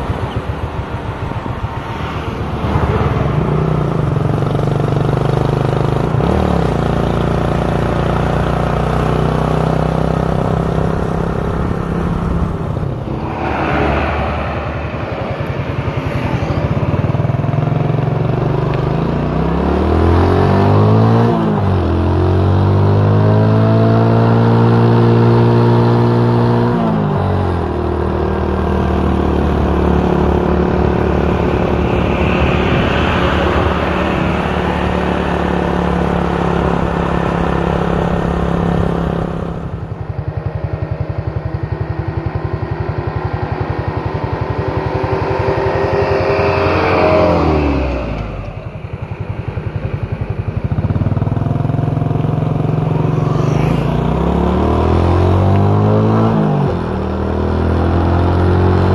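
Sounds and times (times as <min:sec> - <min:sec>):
vehicle engine running: 0:00.0 - 0:57.8.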